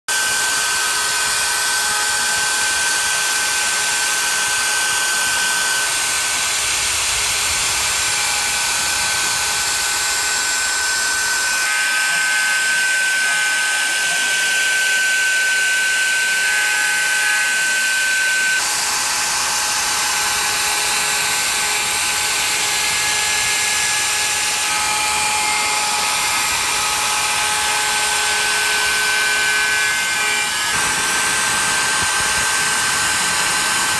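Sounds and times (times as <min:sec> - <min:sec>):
router spindle high whine: 0:00.1 - 0:33.9.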